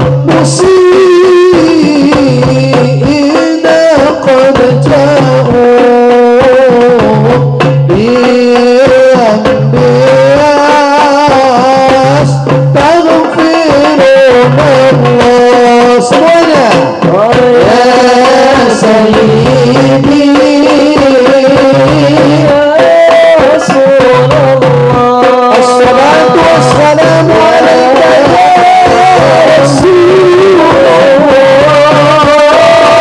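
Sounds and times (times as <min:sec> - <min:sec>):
drum beat: 0:00.0 - 0:33.0
man singing into a microphone: 0:00.0 - 0:33.0.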